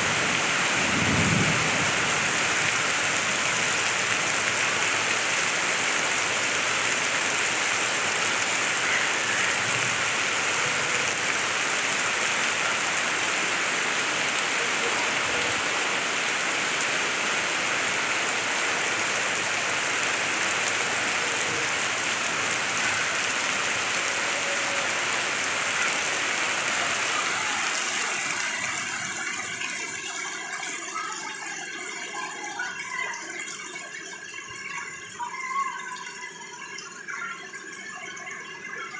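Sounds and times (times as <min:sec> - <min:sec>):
heavy rain pouring: 0:00.0 - 0:36.4.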